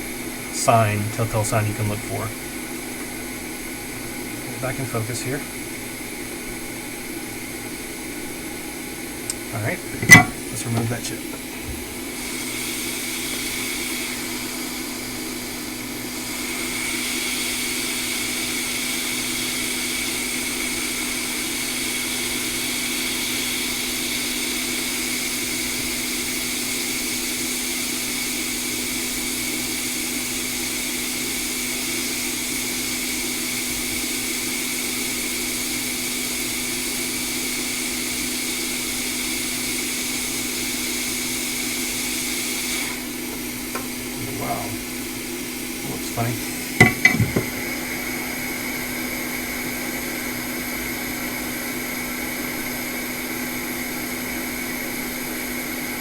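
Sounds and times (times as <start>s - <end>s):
fan whine: 0.0s - 56.0s
hot air blower rushing: 0.0s - 56.0s.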